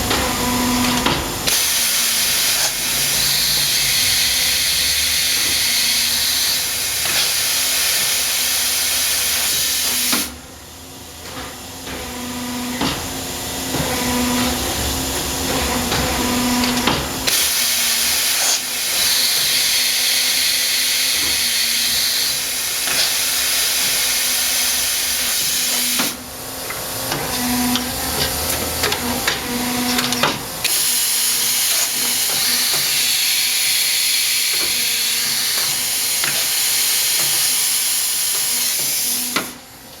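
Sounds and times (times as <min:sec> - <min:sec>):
lathe loud steady hiss: 0:00.0 - 0:11.7, 0:12.3 - 0:39.9
machine hum with whining tones: 0:00.0 - 0:40.0.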